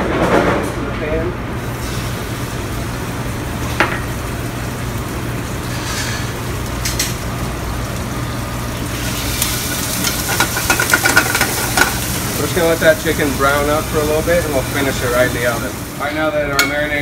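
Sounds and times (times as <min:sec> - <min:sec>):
chicken sizzling in a pan: 0:01.7 - 0:16.5.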